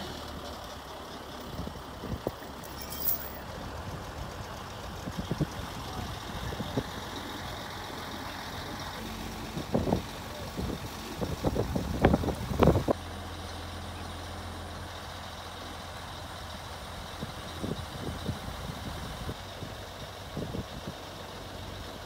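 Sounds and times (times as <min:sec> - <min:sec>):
tow truck running: 0:00.0 - 0:22.0.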